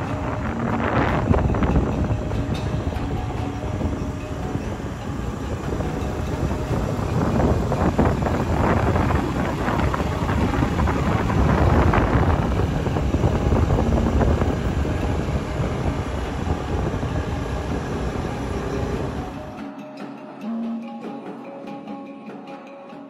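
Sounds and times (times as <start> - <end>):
vehicle road noise: 0.0 - 19.6
wind on microphone: 0.0 - 19.6.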